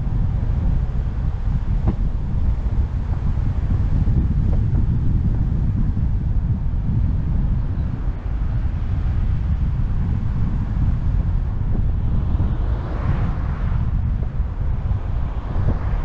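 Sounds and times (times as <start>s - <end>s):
car driving rumble: 0.0s - 16.0s
wind buffeting microphone: 0.0s - 16.0s.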